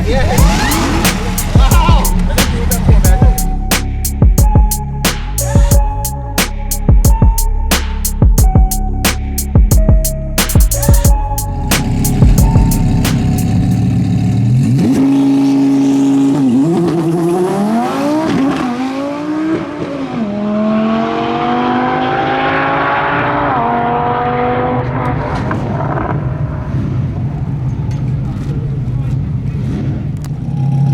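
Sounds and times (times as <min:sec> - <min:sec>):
car engine revving: 0:00.0 - 0:04.5, 0:10.4 - 0:30.9.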